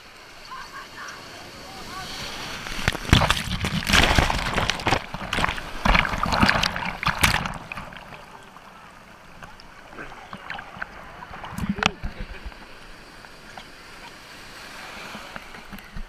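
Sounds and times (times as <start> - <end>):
seawater splashing: 0.1 - 16.0.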